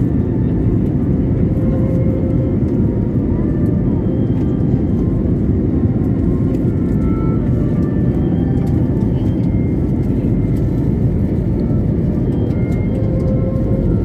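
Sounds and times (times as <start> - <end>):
jet airliner cabin noise: 0.0 - 14.0.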